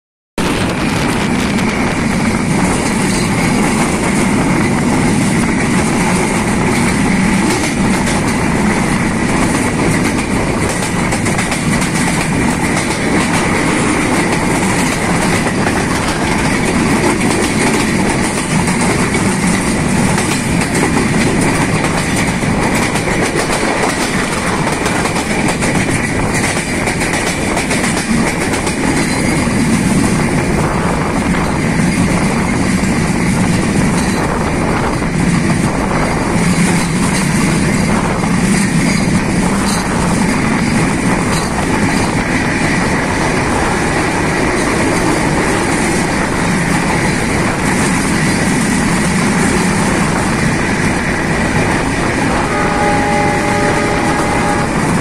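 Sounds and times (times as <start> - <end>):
train wheels rumbling on track: 0.4 - 55.0.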